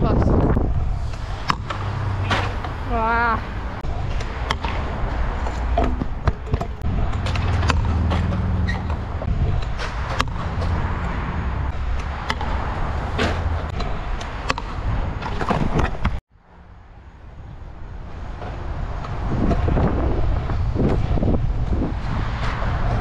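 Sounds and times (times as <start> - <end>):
scooter wheels rolling on concrete: 0.2 - 16.2, 17.1 - 23.0.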